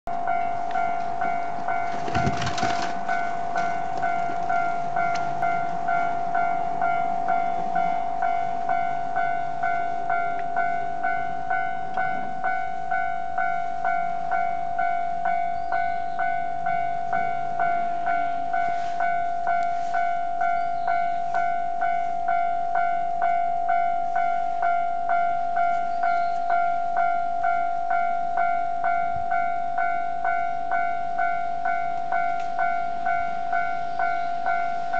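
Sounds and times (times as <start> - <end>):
level crossing alarm bell ringing: 0.1 - 34.9.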